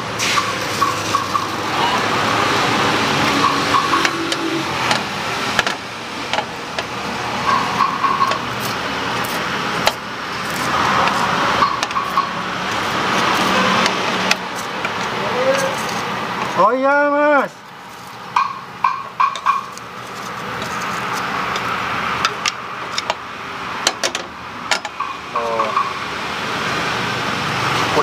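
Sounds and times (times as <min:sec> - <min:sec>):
roadside traffic noise: 0:00.0 - 0:28.0.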